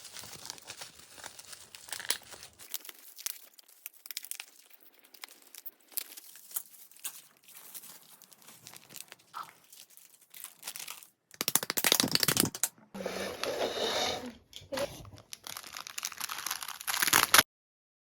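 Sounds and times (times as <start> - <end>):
packaging crinkling: 0.0 - 12.6, 14.6 - 17.4
wrapping tearing: 0.0 - 12.6, 14.7 - 17.4.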